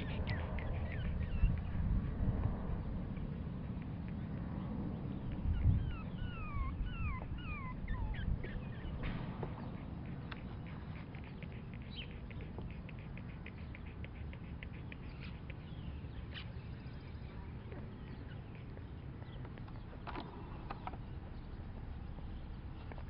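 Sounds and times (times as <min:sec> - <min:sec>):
puppies squeaking: 0:00.0 - 0:02.2, 0:03.1 - 0:23.0
puppies suckling clicks: 0:00.0 - 0:23.0.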